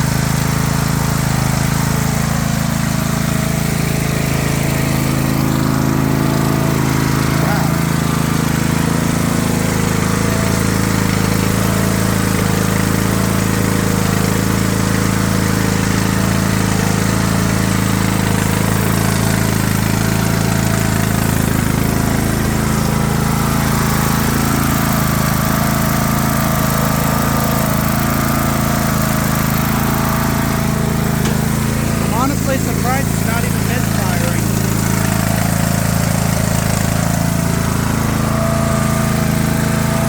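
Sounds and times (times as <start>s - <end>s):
lawn tractor engine running: 0.0s - 40.0s.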